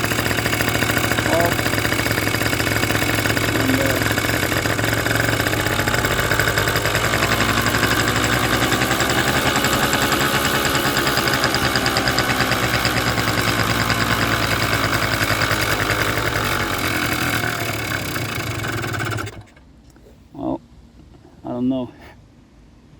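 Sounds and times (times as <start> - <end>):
scooter engine idling: 0.0 - 19.6.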